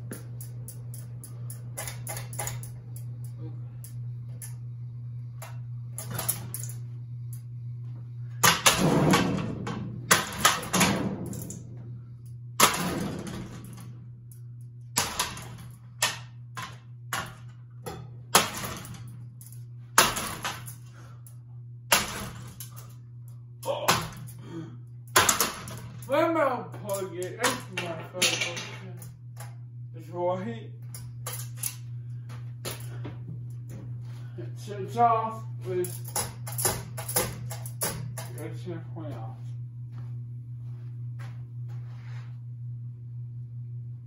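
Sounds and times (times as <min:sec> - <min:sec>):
fan blades clanking: 0:00.0 - 0:42.0
ceiling fan motor hum: 0:00.0 - 0:44.0.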